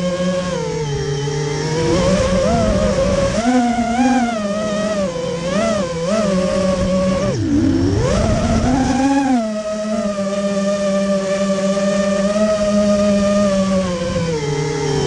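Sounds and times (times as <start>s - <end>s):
model airplane motor and propeller: 0.0s - 15.0s.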